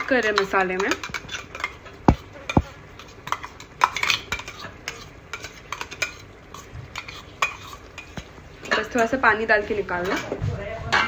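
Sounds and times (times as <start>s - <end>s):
metal spoon scraping a pot: 0.0s - 10.3s.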